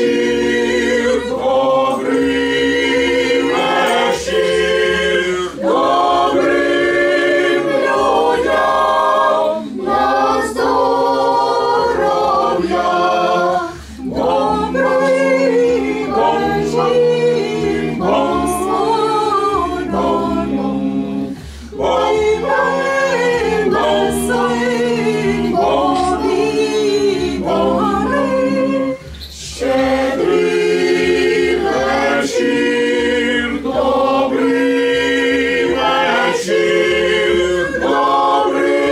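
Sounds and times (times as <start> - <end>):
group singing a cappella: 0.0 - 38.9.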